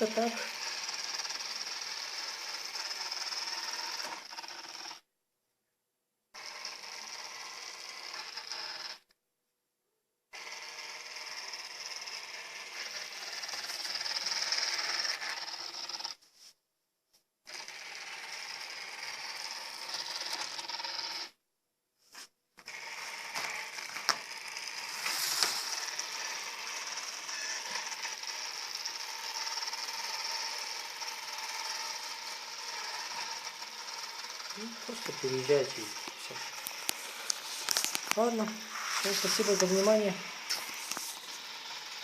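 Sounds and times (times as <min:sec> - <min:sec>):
robot vacuum motors whirring: 0:00.0 - 0:05.0, 0:06.4 - 0:09.0, 0:10.3 - 0:16.2, 0:17.5 - 0:21.3, 0:22.6 - 0:42.0.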